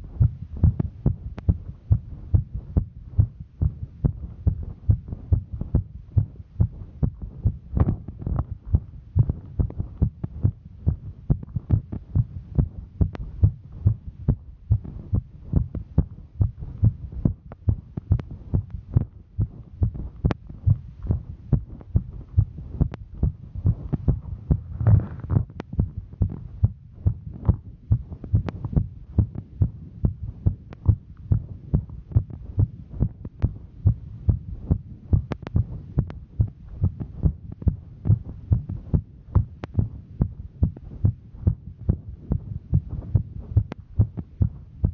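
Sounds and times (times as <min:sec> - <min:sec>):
heartbeat: 0:00.0 - 0:44.9
low hum: 0:00.0 - 0:44.9.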